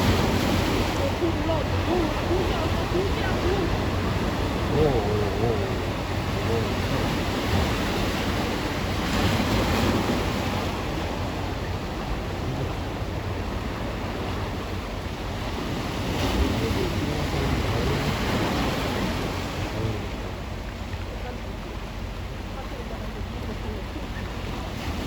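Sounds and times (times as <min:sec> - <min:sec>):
wind on microphone: 0:00.0 - 0:20.4
sea surf washing ashore: 0:00.0 - 0:25.0.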